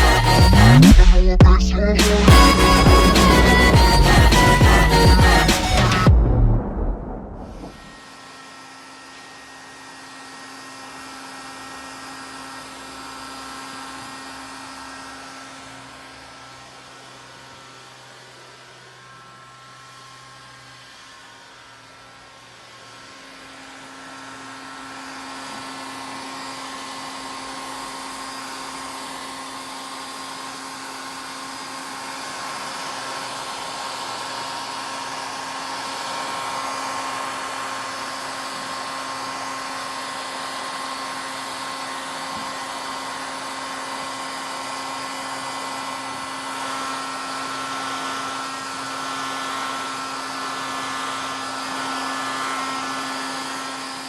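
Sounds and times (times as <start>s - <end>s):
heat gun blowing air: 2.0s - 6.1s, 7.6s - 54.0s.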